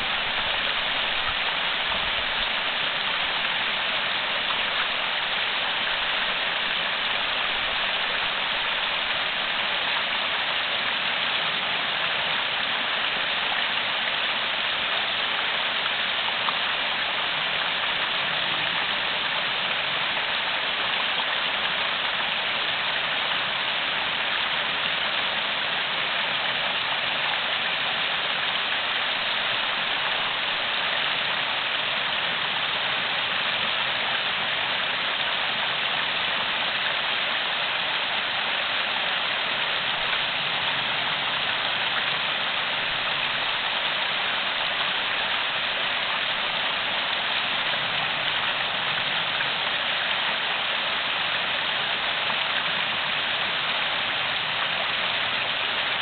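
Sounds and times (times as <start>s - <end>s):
stream splashing over stones: 0.0s - 56.0s.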